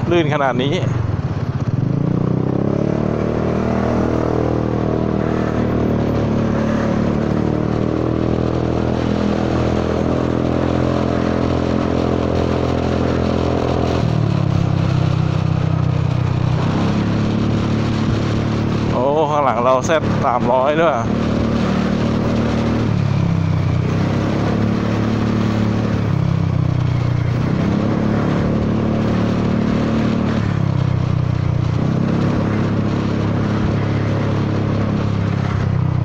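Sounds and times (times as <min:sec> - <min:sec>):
scooter engine revving: 0:00.0 - 0:35.8
road noise: 0:00.0 - 0:36.0
wind noise: 0:01.5 - 0:36.0.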